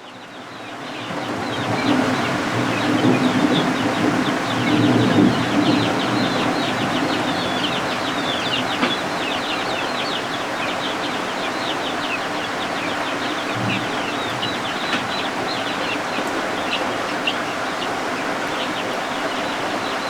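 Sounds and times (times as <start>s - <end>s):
chicks peeping: 0.1s - 20.0s
rain hiss: 0.4s - 20.0s.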